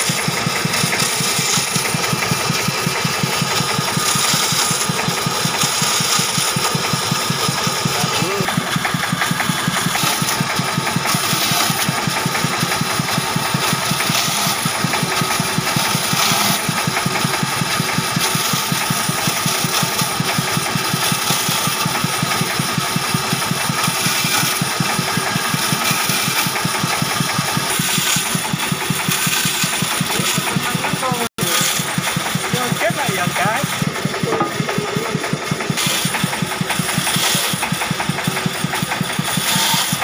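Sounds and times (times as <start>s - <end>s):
band saw cutting wood: 0.0s - 40.0s.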